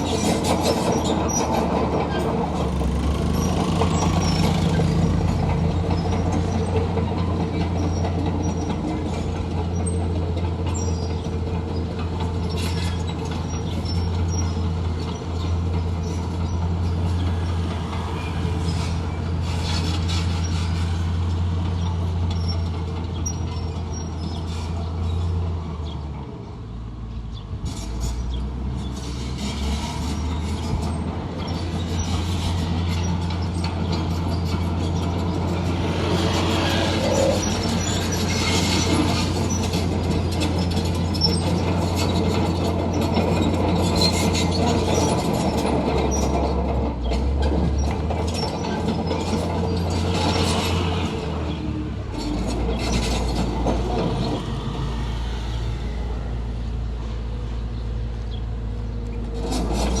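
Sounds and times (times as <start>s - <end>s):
steel tracks clanking and squealing: 0.0s - 26.0s, 27.3s - 60.0s
bulldozer diesel engine: 0.0s - 60.0s.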